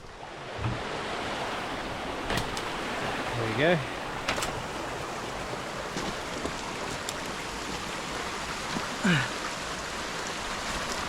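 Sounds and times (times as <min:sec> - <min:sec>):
fast-flowing stream rushing: 0:00.0 - 0:11.0.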